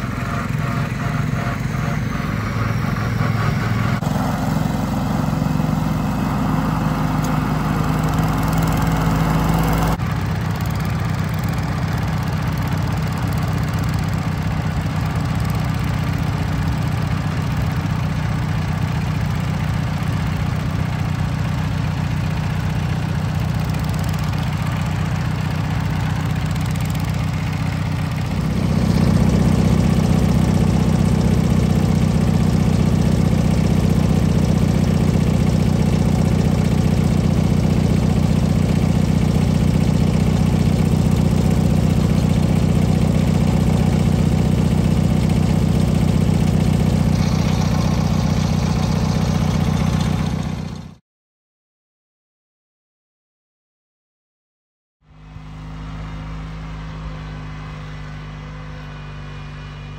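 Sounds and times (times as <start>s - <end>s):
garden tractor engine running: 0.0s - 51.0s.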